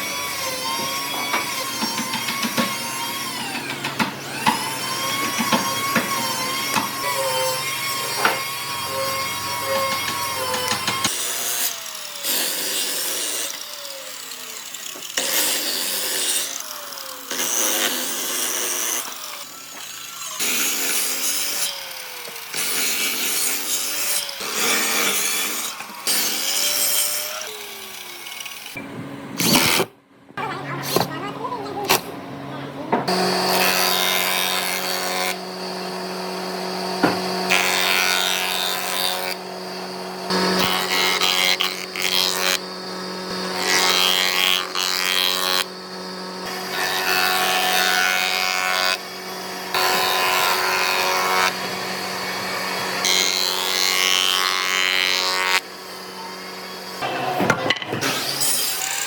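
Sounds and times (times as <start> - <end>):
power tool cutting wood: 0.0 - 59.0.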